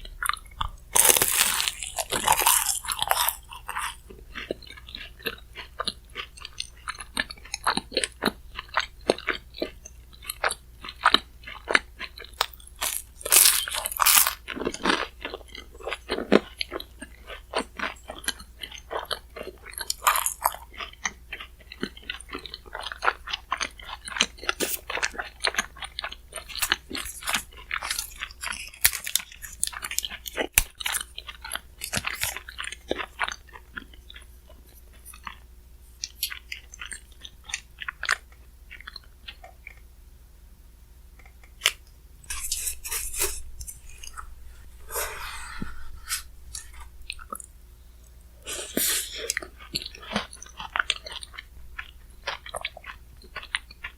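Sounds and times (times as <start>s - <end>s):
chewing and crunching ice: 0.0s - 39.9s, 45.8s - 48.2s, 49.1s - 53.9s.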